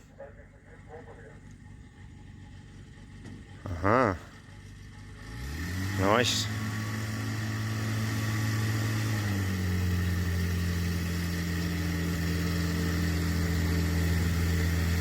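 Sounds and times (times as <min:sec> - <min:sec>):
motor glider engine running: 0:00.0 - 0:15.0.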